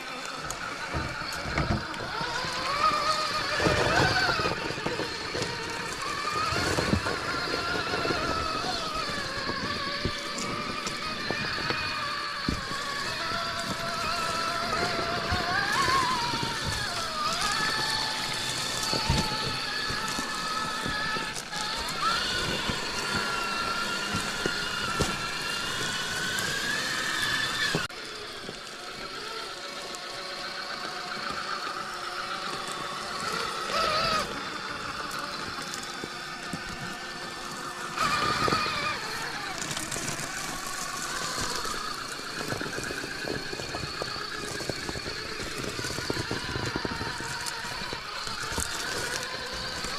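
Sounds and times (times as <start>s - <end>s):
rc car drivetrain whining: 0.0s - 49.9s.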